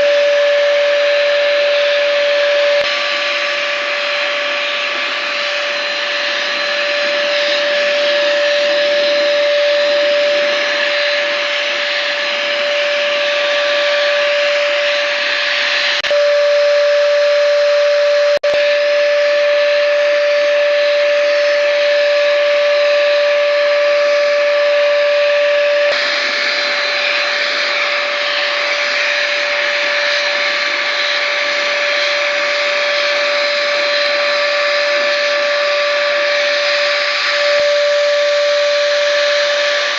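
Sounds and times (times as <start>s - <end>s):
hiss of air and spray: 0.0s - 18.1s, 18.8s - 39.9s
electric spray gun motor hum: 0.0s - 39.9s.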